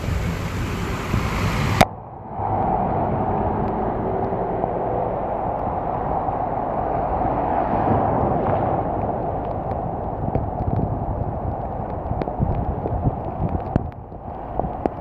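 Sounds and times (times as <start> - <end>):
heavy rain: 0.0 - 15.0
vehicle driving through floodwater: 0.0 - 15.0.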